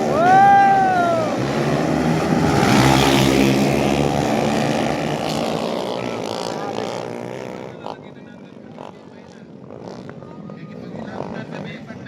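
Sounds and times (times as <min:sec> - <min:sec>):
motorcycle engines revving past: 0:00.0 - 0:12.0.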